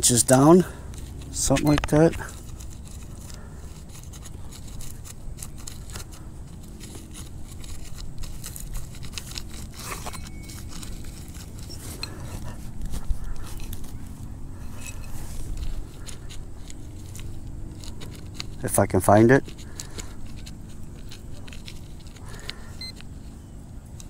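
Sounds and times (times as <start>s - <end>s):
digging tool scraping ground: 0.0s - 24.0s.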